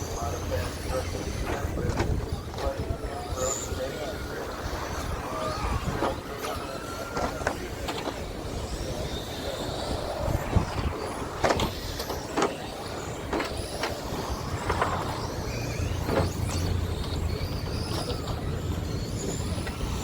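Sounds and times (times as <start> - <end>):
rc truck motors whining: 0.0 - 20.0.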